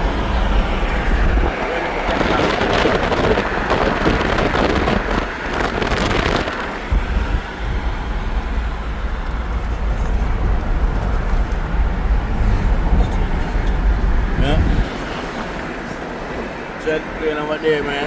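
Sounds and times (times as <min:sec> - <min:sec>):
wind gust on microphone: 0:00.0 - 0:17.8
road and wind rumble: 0:00.0 - 0:18.0.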